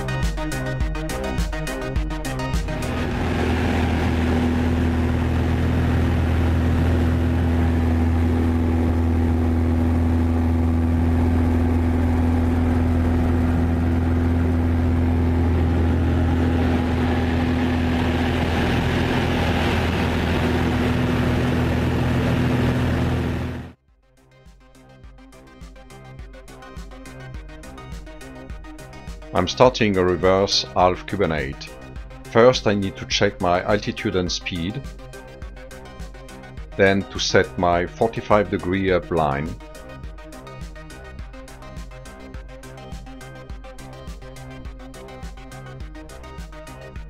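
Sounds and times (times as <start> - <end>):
propeller plane engine drone: 0.0 - 23.8, 25.3 - 47.0.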